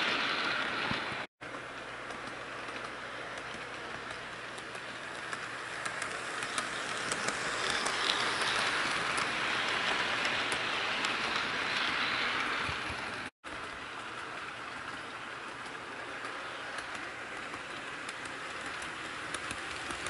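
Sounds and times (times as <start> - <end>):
model train rolling past: 0.0 - 20.0
light track clicks: 0.1 - 20.0.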